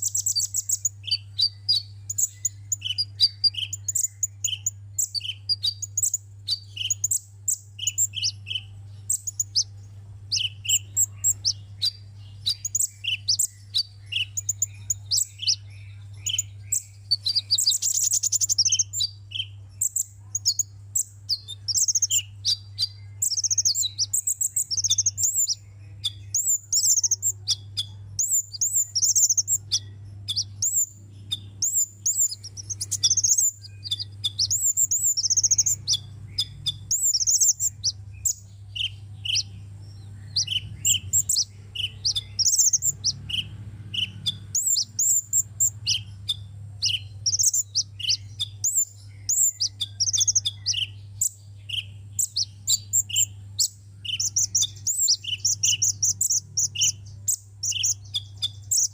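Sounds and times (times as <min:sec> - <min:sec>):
bird chirping high-pitched: 0:00.0 - 0:58.9
steady low hum: 0:00.0 - 0:58.9.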